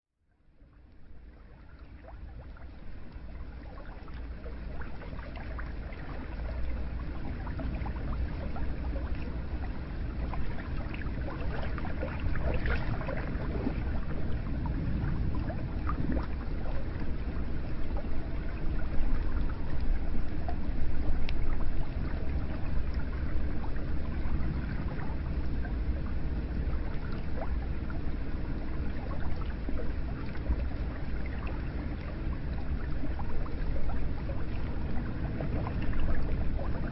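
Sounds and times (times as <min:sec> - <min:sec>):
low rumble: 0:00.4 - 0:36.9.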